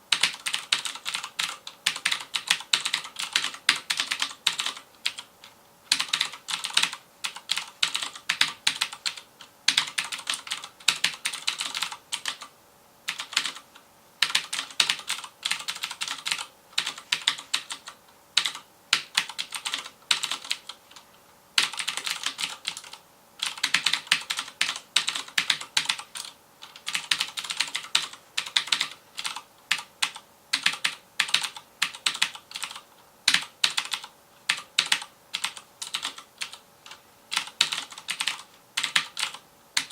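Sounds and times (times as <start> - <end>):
mechanical keyboard typing: 0.1 - 12.5, 13.1 - 13.6, 14.2 - 39.9.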